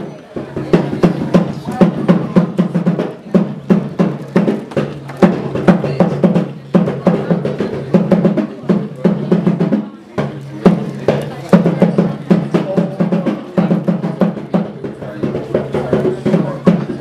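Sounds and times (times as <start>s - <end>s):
fast drumming: 0.4s - 17.0s.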